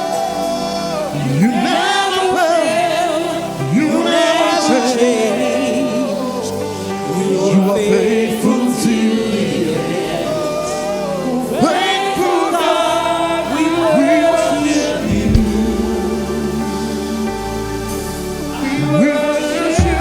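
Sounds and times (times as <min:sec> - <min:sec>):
gospel choir singing: 0:00.0 - 0:20.0.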